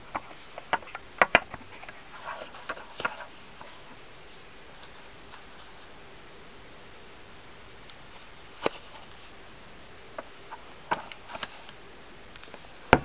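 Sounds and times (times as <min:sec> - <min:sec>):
soft rustle: 0:00.0 - 0:13.0.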